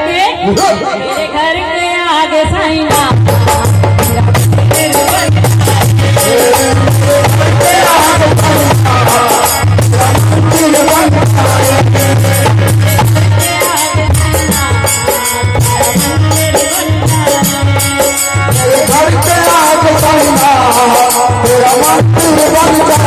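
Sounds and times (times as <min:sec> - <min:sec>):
devotional instrumental melody: 0:00.0 - 0:23.0
hand percussion: 0:00.4 - 0:01.4, 0:02.8 - 0:23.0
steady drum beats: 0:00.4 - 0:23.0.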